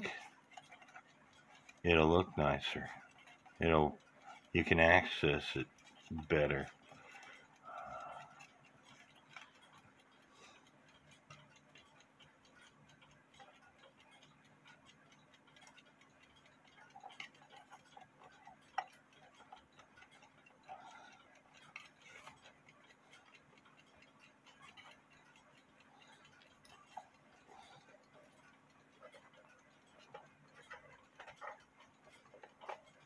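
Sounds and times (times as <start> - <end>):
clock ticking: 0.0 - 33.0
small metallic clicks: 0.0 - 33.0.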